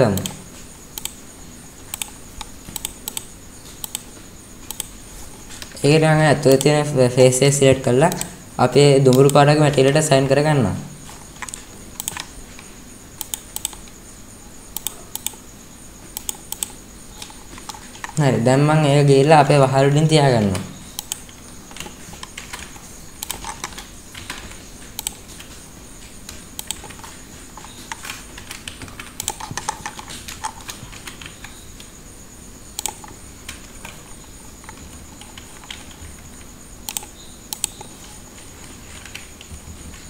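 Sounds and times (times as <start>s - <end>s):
keyboard and mouse clicks: 0.0s - 1.2s, 1.9s - 6.9s, 8.1s - 8.4s, 9.1s - 10.4s, 11.0s - 14.0s, 14.7s - 15.4s, 16.1s - 18.2s, 20.4s - 32.0s, 32.7s - 40.0s.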